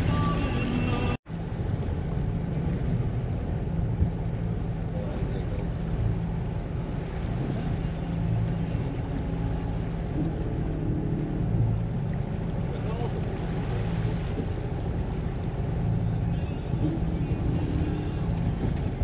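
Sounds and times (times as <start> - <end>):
low rumble on sailing yacht: 0.0 - 19.0.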